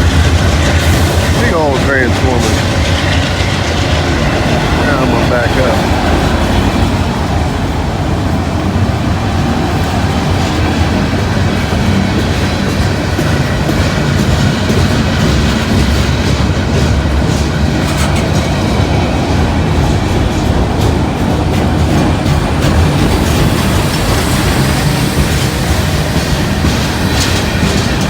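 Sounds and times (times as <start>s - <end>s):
freight train wheels on rail: 0.0s - 28.0s.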